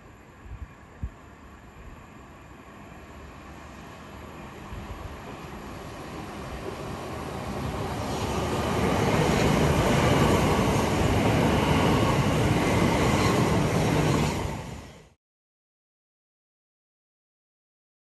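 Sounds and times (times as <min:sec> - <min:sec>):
electric train passing: 0:00.0 - 0:15.2.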